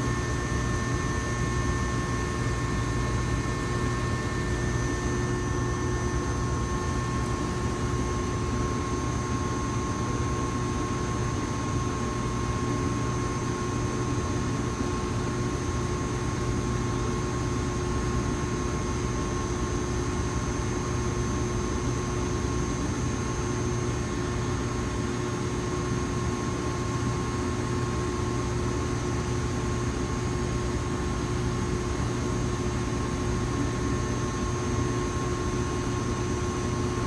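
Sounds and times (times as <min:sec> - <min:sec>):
cooling fans rushing: 0:00.0 - 0:37.0
electrical equipment hum: 0:00.0 - 0:37.0.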